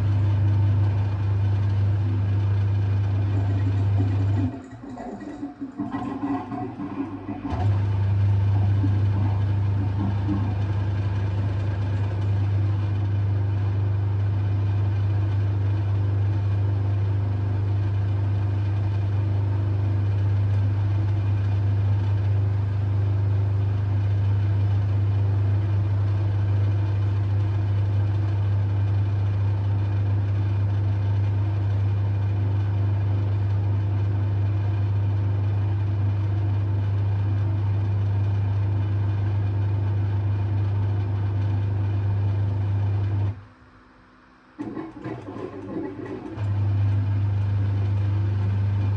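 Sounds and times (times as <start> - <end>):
washing machine drain pump humming: 0.0 - 48.9.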